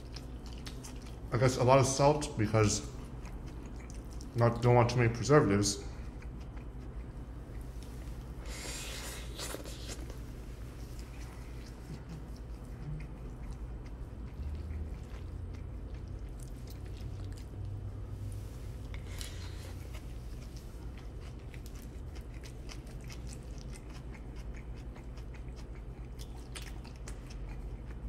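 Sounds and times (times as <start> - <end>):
person chewing food: 0.0 - 1.6, 2.8 - 4.7, 5.8 - 28.0.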